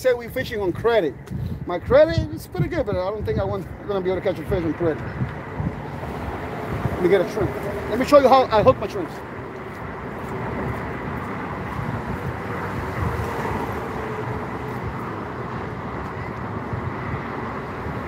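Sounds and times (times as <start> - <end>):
road traffic: 0.0 - 18.0
wind on microphone: 0.0 - 18.0.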